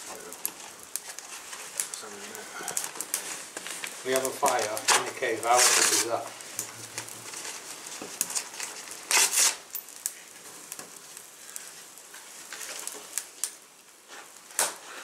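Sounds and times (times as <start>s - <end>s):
dry tinder rustling: 0.0s - 15.0s
fire crackling and popping: 0.0s - 15.0s.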